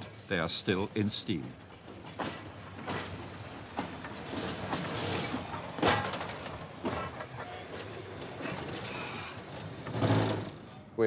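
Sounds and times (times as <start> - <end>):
train carriages rolling slowly: 0.0 - 11.0
wheels clanking and knocking: 1.5 - 11.0.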